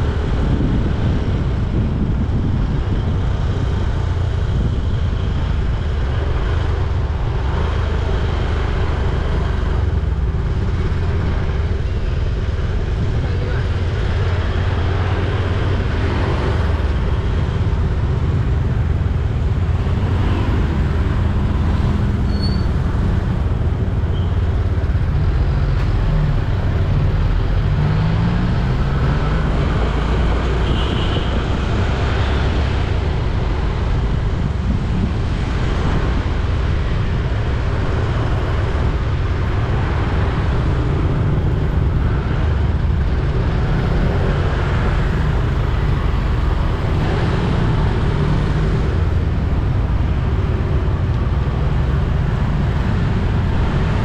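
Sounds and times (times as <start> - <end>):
vehicle and road noise rumble: 0.0 - 54.0.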